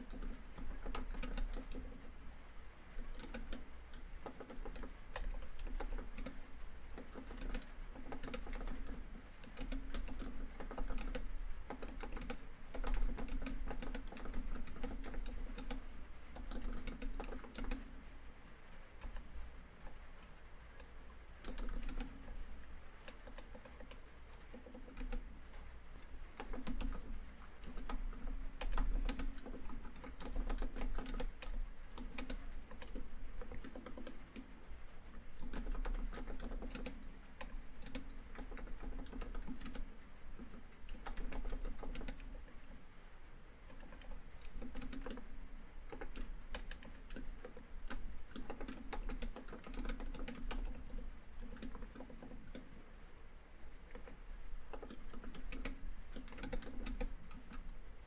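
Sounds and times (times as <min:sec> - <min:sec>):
typing on laptop keyboard: 0:00.0 - 0:02.2, 0:02.9 - 0:18.0, 0:18.9 - 0:42.8, 0:43.6 - 0:52.8, 0:53.8 - 0:57.8.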